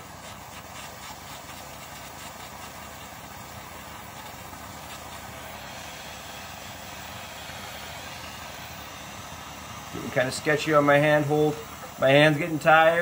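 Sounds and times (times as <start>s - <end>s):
blowtorch flame hissing: 0.0s - 13.0s.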